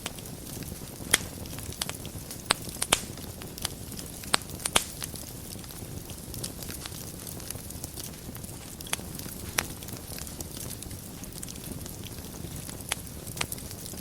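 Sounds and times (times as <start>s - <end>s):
burning wood popping: 0.0s - 14.0s
wood fire crackling: 0.0s - 14.0s.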